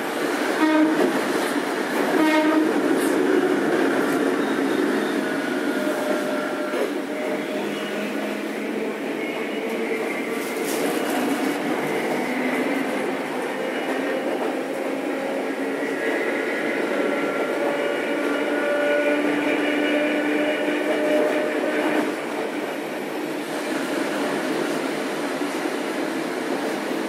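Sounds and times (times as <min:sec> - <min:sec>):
tram running rumble: 0:00.0 - 0:27.0.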